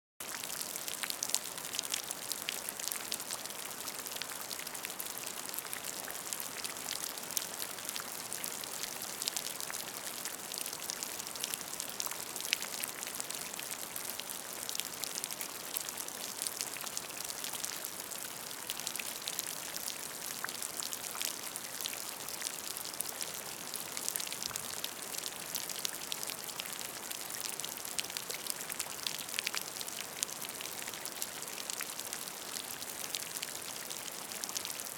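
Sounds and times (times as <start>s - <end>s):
rain pattering into puddle: 0.2s - 34.9s.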